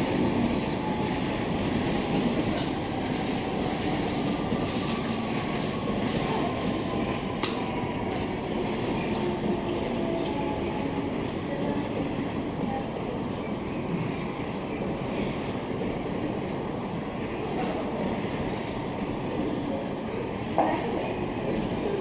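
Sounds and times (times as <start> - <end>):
monorail train rumbling: 0.0 - 22.0.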